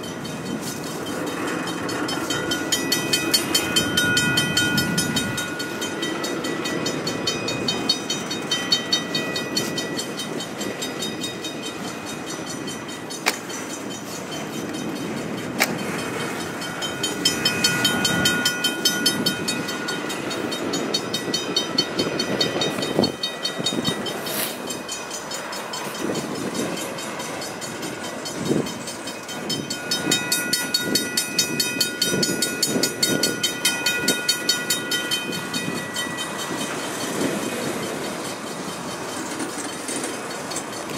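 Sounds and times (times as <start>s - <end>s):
crossing signal bell ringing: 0.0s - 40.9s
freight train wheels clattering: 0.0s - 40.9s
high ringing tones: 0.0s - 40.9s.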